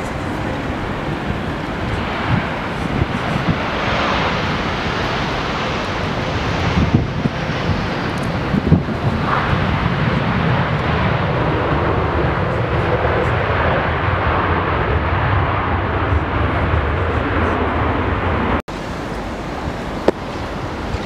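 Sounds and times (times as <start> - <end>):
jet engines roaring: 0.0 - 21.0
wind rumbling on microphone: 0.0 - 21.0.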